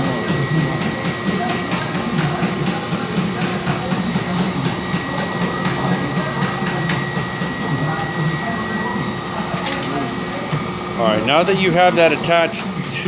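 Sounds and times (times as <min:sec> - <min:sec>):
mechanical hum with high tone: 0:00.0 - 0:13.0.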